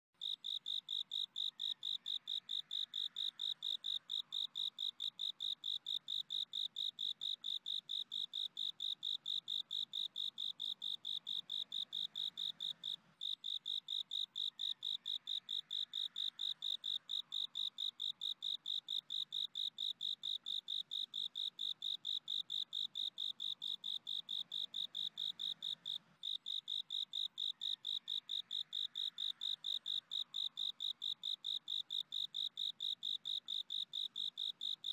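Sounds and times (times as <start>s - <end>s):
cricket chirping trill: 0.2s - 34.9s.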